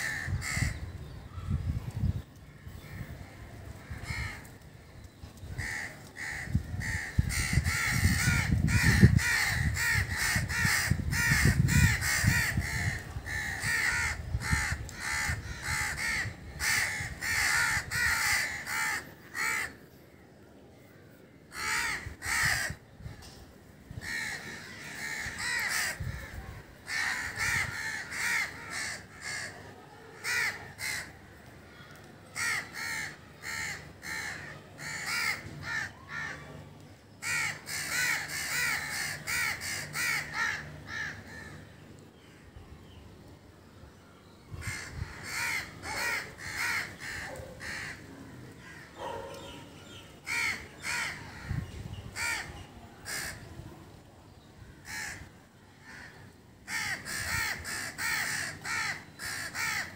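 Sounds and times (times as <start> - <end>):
birds calling harshly: 0.0 - 20.2, 20.9 - 23.4, 24.0 - 36.6, 37.2 - 43.0, 43.9 - 53.5, 54.7 - 59.9.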